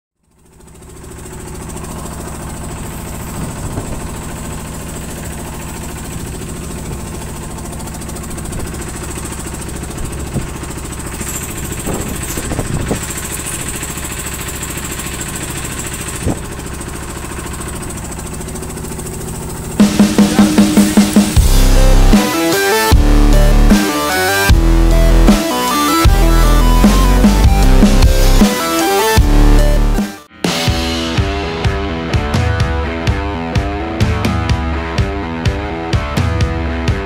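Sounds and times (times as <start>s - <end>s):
boat engine pulsing: 0.2s - 30.3s.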